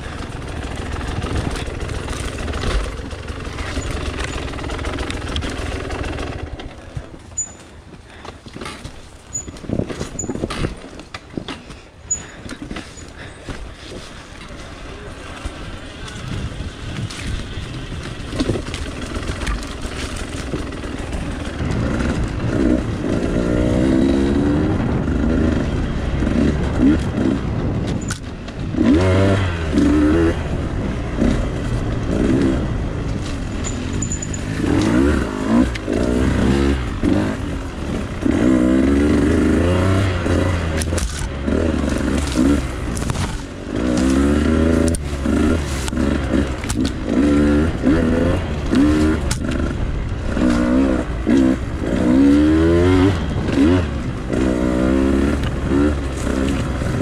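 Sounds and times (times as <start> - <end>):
dirt bike engine revving: 0.0 - 11.0, 11.6 - 57.0.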